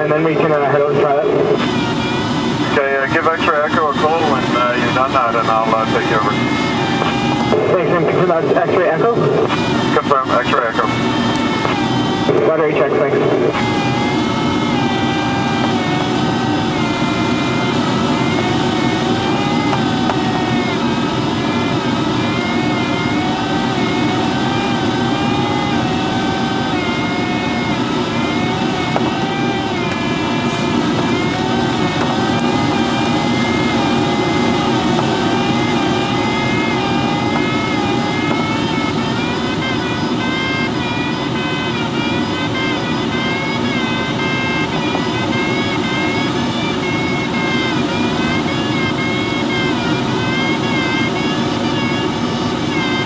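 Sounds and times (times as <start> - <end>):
variometer tone wavering: 0.0 - 53.0.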